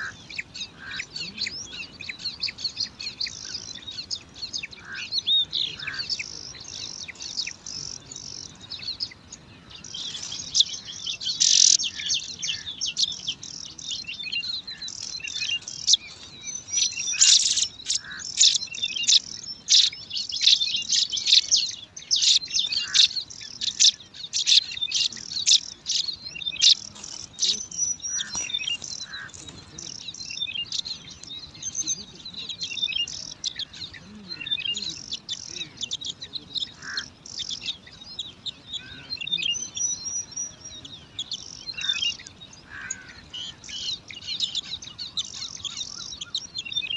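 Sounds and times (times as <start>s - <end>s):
nestlings begging with high chirps: 0.0s - 46.9s.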